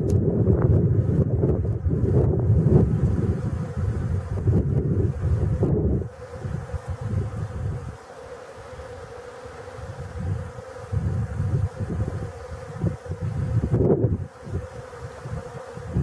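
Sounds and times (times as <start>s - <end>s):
wind rumbling on microphone: 0.0s - 8.0s, 9.7s - 16.0s
bees buzzing: 0.0s - 16.0s.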